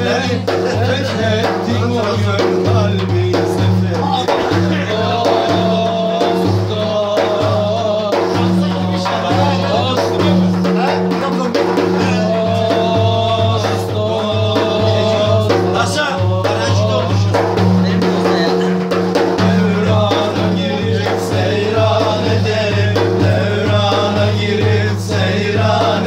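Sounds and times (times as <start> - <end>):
frame drum beating: 0.0 - 26.0
men singing a hymn: 0.0 - 26.0.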